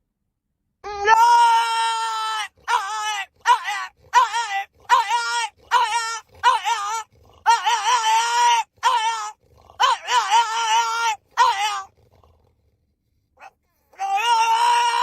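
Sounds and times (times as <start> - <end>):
dog whining and howling: 1.0 - 12.0, 13.4 - 15.0.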